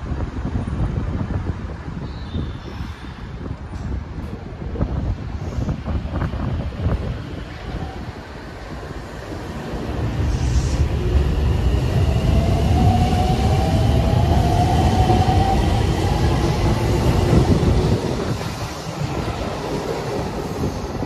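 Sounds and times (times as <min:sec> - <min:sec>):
train cars rumbling past: 0:02.5 - 0:21.0.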